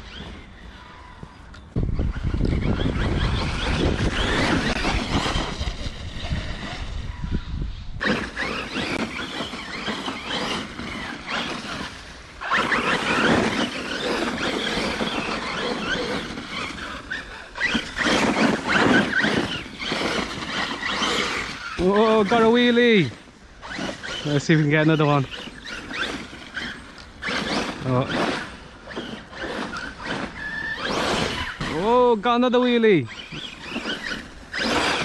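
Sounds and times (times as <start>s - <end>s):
electric motor whining: 0.0s - 35.0s
tyres spinning in snow: 0.0s - 35.0s.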